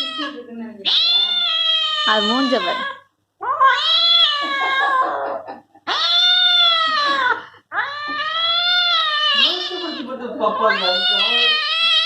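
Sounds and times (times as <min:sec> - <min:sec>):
cat meowing: 0:00.0 - 0:12.0.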